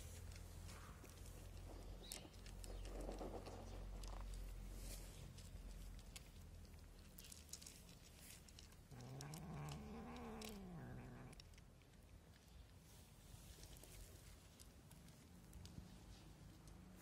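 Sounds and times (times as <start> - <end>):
cats crunching dry kibble: 0.0 - 17.0.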